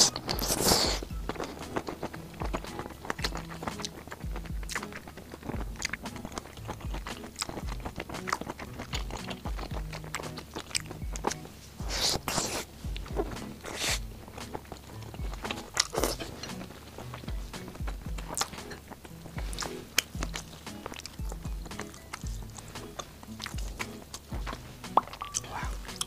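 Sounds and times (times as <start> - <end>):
background music with low beat: 0.0 - 26.0
crunchy food being chewed: 0.0 - 26.0.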